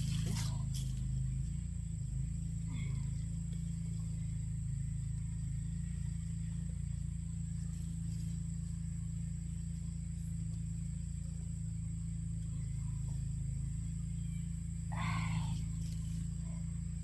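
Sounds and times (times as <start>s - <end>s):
engine droning: 0.0s - 17.0s
high insect whine: 0.0s - 17.0s.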